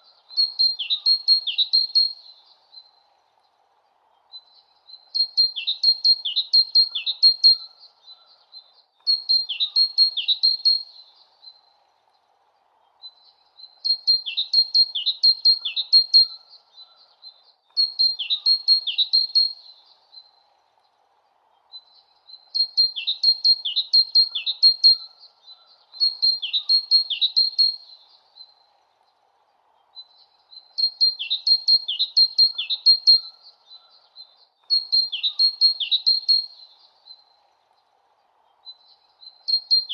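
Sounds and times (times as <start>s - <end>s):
faint steady hiss: 0.0s - 39.9s
songbird trilling chirps: 0.0s - 39.9s.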